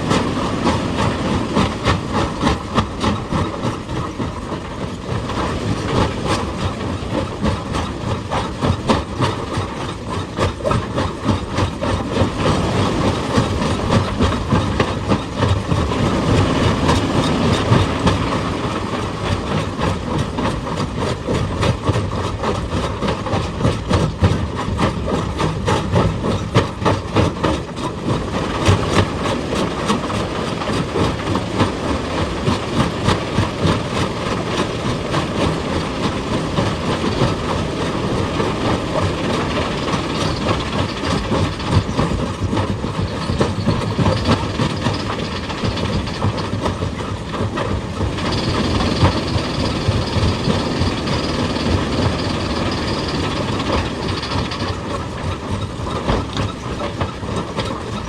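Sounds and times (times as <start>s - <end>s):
excavator diesel engine: 0.0s - 58.0s
rapid impact clatter: 0.0s - 58.0s.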